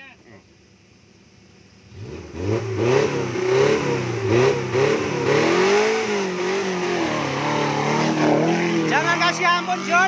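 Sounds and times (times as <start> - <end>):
off-road engine revving: 1.8 - 10.0.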